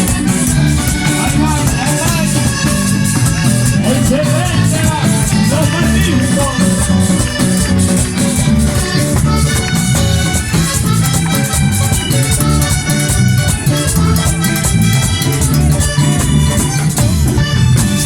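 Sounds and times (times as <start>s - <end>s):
live band playing with driving beat: 0.0s - 18.0s.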